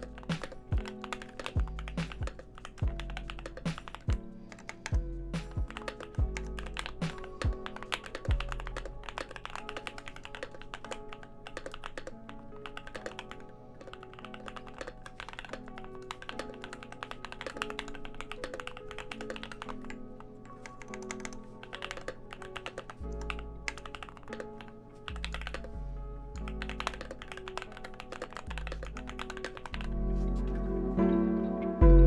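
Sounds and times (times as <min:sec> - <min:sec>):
fast typing on mechanical keyboard: 0:00.0 - 0:25.8, 0:26.4 - 0:29.9
background music: 0:00.0 - 0:32.0.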